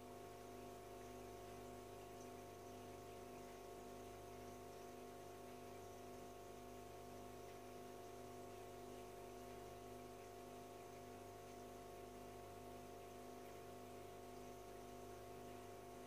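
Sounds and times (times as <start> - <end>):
aquarium filter humming: 0.0 - 16.0.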